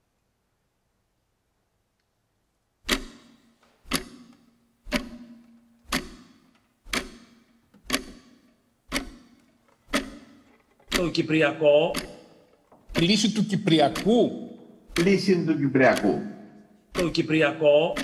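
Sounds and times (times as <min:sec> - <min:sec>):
clock ticking: 0:02.9 - 0:18.0.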